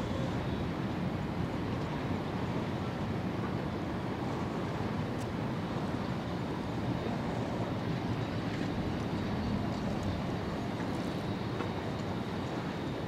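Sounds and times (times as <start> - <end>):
low rumble of distant engines: 0.0 - 13.0.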